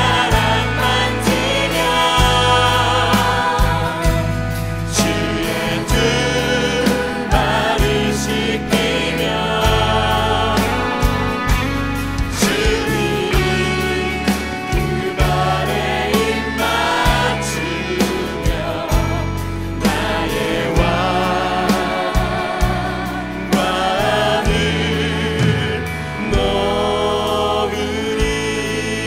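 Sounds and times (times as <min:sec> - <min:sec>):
electric bass low notes: 0:00.0 - 0:29.0
voices singing praise song: 0:00.0 - 0:29.0
worship band music: 0:00.0 - 0:29.0.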